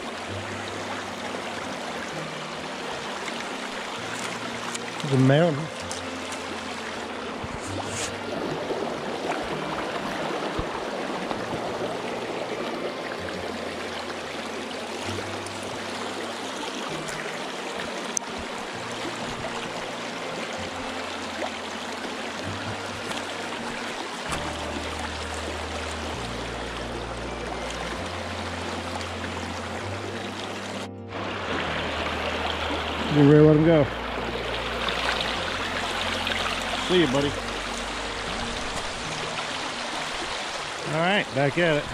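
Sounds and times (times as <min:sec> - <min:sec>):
background music with bass notes: 0:00.0 - 0:41.8
stream rushing over stones: 0:00.0 - 0:41.9.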